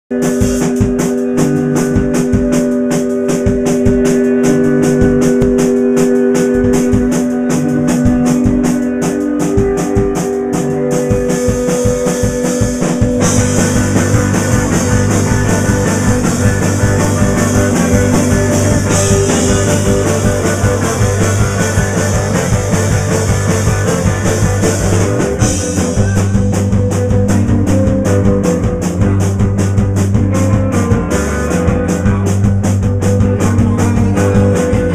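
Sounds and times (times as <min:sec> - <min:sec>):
distorted electric guitar: 0:00.1 - 0:34.9
drums fast beat: 0:00.1 - 0:34.9
heavy low bass line: 0:00.6 - 0:34.9.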